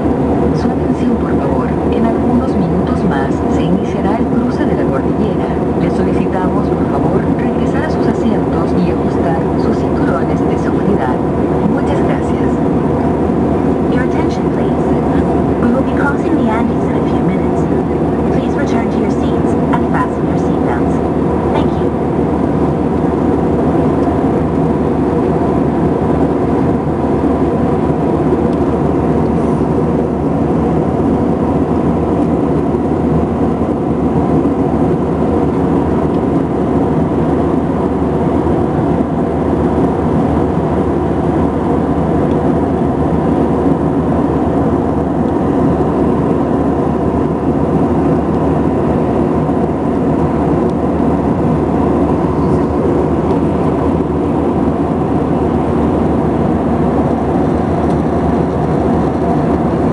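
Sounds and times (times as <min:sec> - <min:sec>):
jet engine drone in cabin: 0:00.0 - 0:59.9
steady hum tones: 0:00.0 - 0:59.9.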